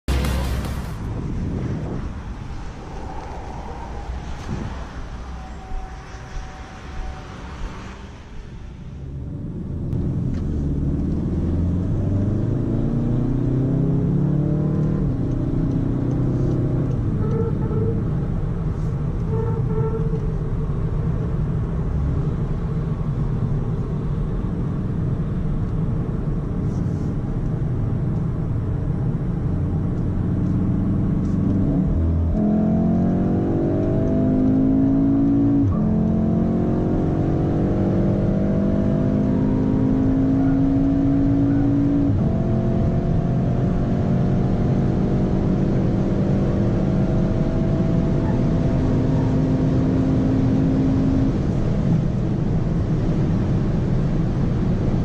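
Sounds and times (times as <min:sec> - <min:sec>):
car engine accelerating: 0:00.0 - 0:19.3, 0:20.1 - 0:55.0
road noise: 0:00.0 - 0:55.0.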